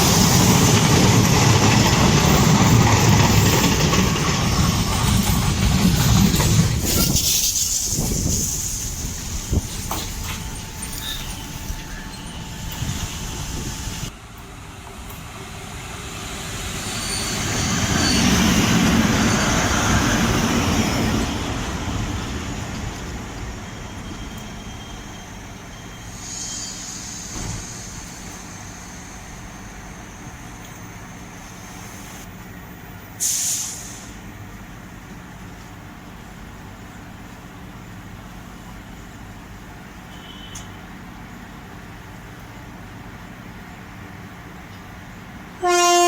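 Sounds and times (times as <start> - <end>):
train passing: 0.0 - 40.1, 40.9 - 46.0.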